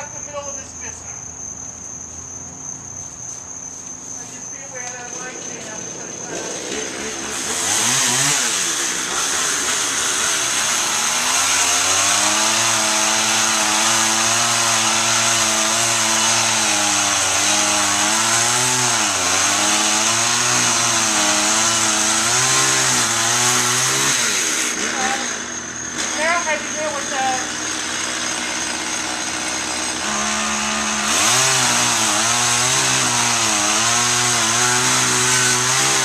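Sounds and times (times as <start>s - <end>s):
chainsaw cutting wood: 4.6s - 36.0s.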